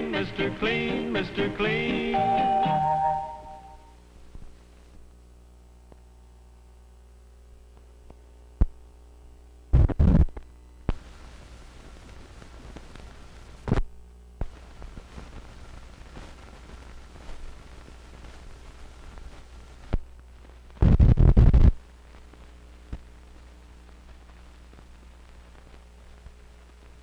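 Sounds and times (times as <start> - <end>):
low electrical hum: 0.0 - 27.0
light crackling hiss: 3.1 - 27.0.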